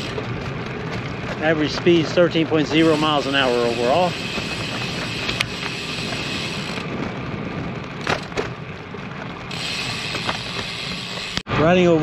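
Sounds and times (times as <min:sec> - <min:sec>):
bicycle freewheel ratcheting: 0:00.0 - 0:11.5
rolling and wind noise: 0:00.0 - 0:12.0.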